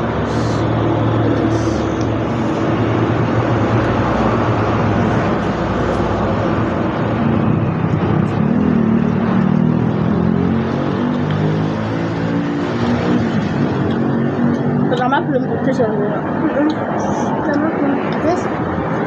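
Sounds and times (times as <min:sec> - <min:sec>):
loud vehicle engine: 0:00.0 - 0:19.0
low hum: 0:00.0 - 0:19.0.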